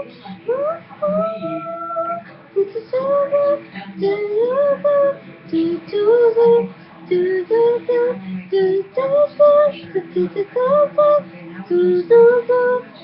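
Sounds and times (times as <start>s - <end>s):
girl singing wordless notes: 0.0s - 13.0s.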